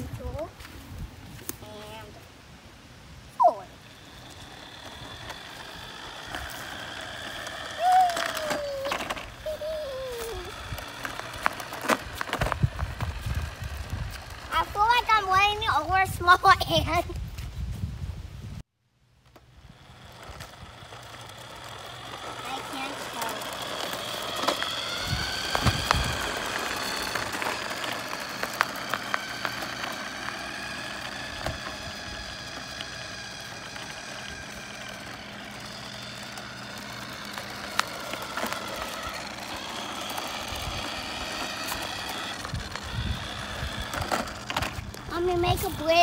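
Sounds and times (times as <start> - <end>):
toy truck electric motor whining: 3.4 - 16.6, 19.2 - 46.0.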